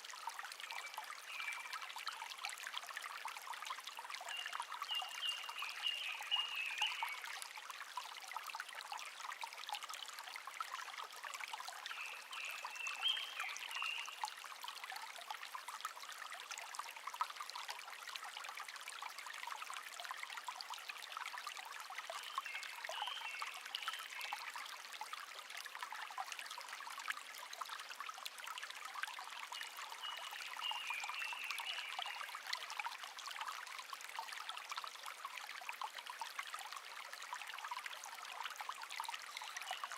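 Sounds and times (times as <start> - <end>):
brook trickling: 0.0 - 39.9.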